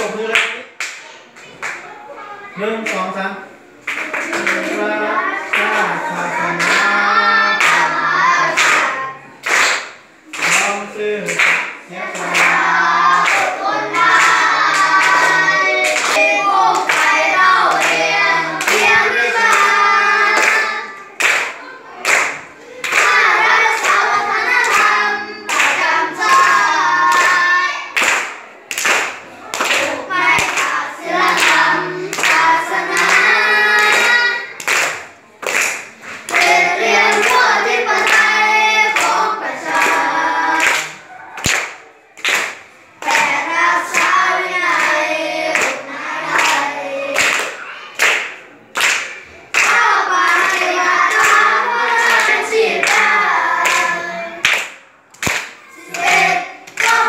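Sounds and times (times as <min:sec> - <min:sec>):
children clapping: 0:00.3 - 0:02.0, 0:03.8 - 0:57.0
children singing together: 0:03.9 - 0:10.0, 0:11.4 - 0:57.0.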